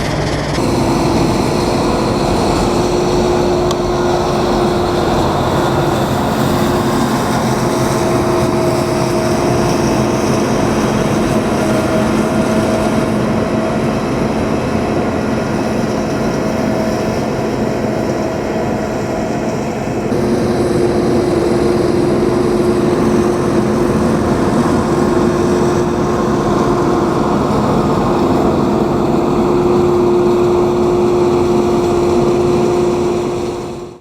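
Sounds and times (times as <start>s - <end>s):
combine harvester mechanical drone: 0.0s - 34.0s.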